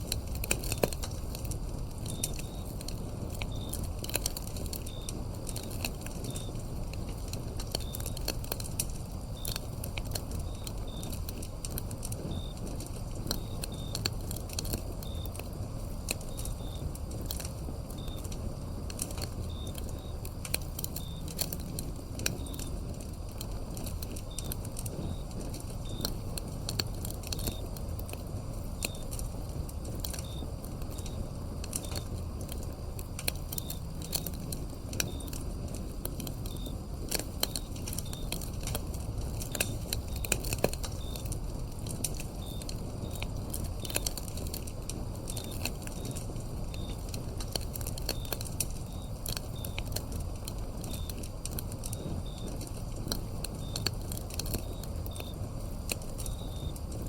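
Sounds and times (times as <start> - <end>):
insect chirps: 0.0 - 57.0
low steady rumble: 0.0 - 57.0
wood fire crackling and popping: 0.0 - 57.0.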